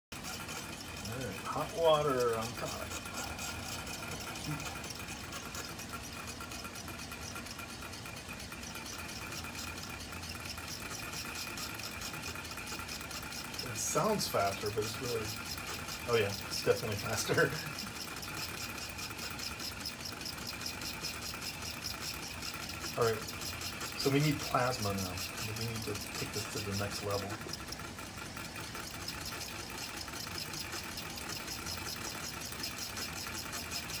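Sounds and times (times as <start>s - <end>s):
small engine ticking rapidly: 0.1s - 34.0s.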